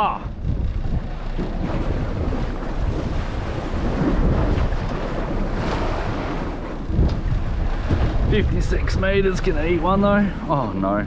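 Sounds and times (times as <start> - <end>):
choppy sea washing: 0.0 - 11.0
wind buffeting microphone: 0.0 - 11.0.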